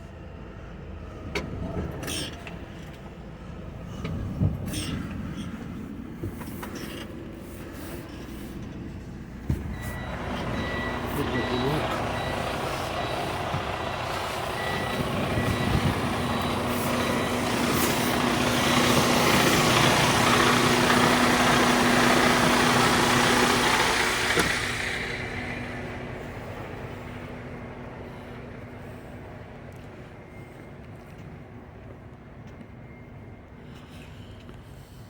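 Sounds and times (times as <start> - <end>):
diesel truck engine humming: 0.0 - 35.0.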